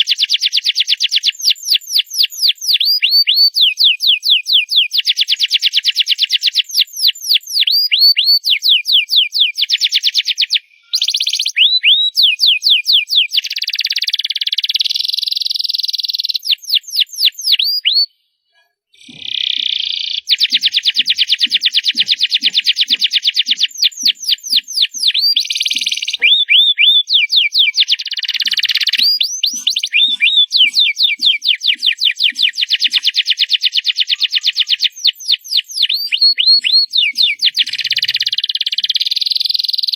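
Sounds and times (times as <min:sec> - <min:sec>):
canary singing: 0:00.0 - 0:18.1, 0:19.0 - 0:39.9.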